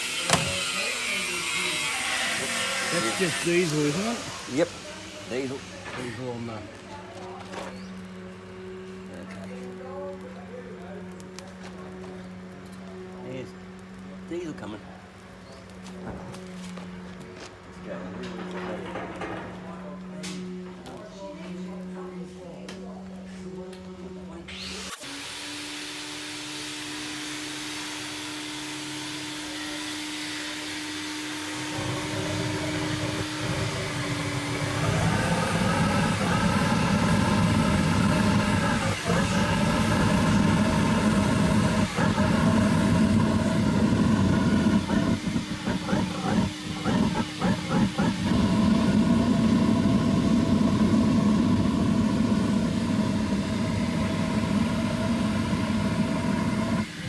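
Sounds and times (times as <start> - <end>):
furnace burner rumbling: 0.0 - 25.0, 26.1 - 57.0
vacuum blower whine: 0.0 - 57.0.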